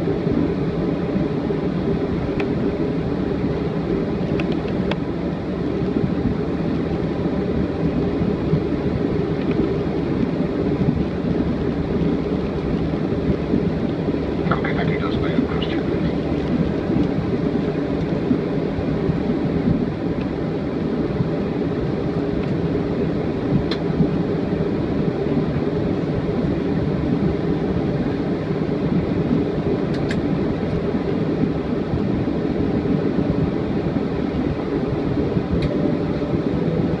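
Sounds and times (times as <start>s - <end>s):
cabin air noise: 0.0s - 37.0s
jet engines rumbling at idle: 0.0s - 37.0s.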